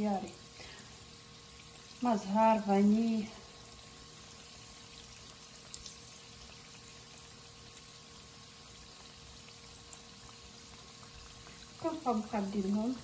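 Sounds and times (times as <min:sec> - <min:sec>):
pastry sizzling in oil: 0:00.0 - 0:13.0.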